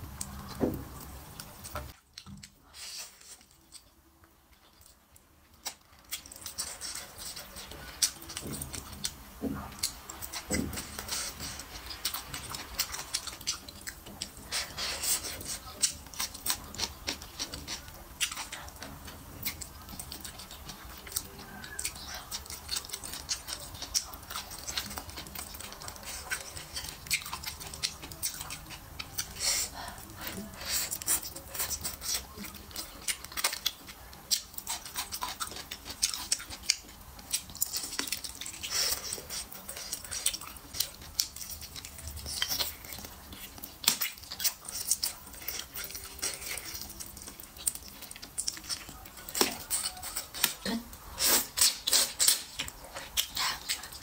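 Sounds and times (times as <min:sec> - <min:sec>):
wet chewing smacks: 0:05.6 - 0:54.0.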